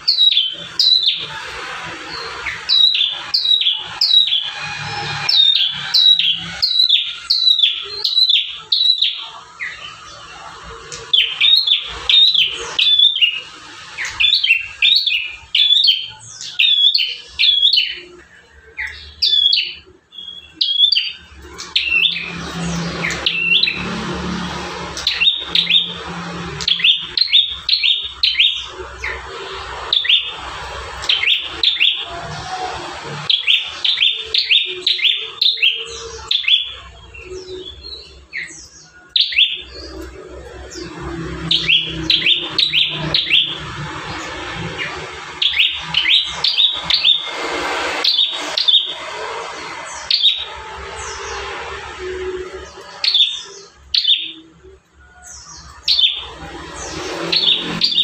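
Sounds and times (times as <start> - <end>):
bird chirping sharply: 0.0 - 58.0.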